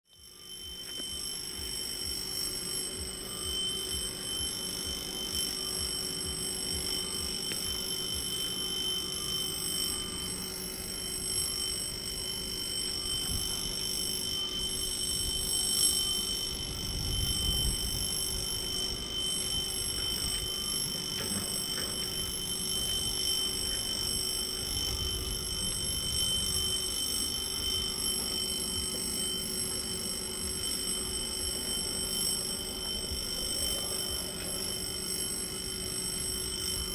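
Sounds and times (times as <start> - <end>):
level crossing warning bell ringing: 0.2 - 36.9.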